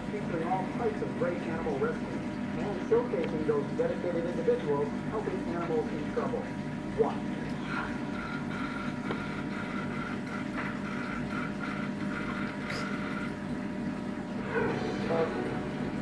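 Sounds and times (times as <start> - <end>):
filter pump hum: 0.0 - 16.0.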